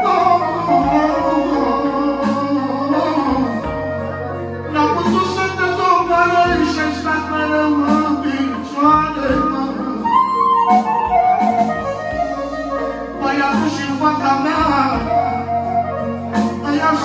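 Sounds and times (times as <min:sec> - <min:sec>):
man singing into microphone: 0:00.0 - 0:11.0, 0:13.2 - 0:17.0
electronic keyboard melody: 0:00.0 - 0:17.0.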